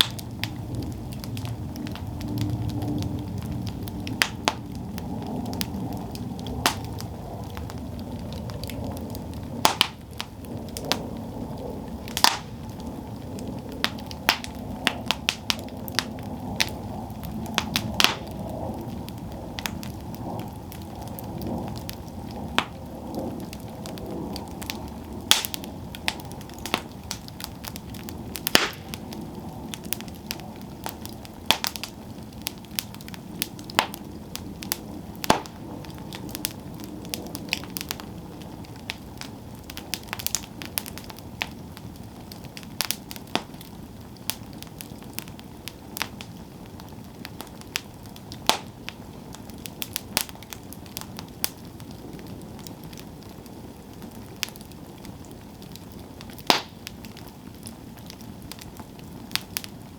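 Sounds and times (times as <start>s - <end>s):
campfire flame rushing: 0.0s - 59.9s
fire crackles and pops: 0.0s - 59.9s.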